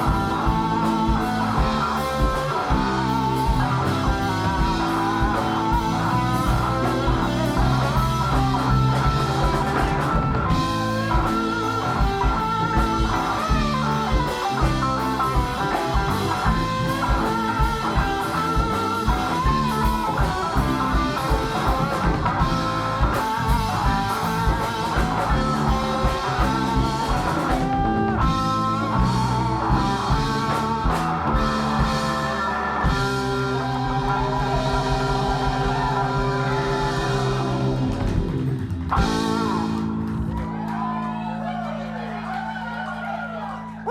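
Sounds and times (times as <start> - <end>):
bass: 0.0 - 43.9
bending guitar lead: 0.0 - 43.9
drums: 0.0 - 43.9.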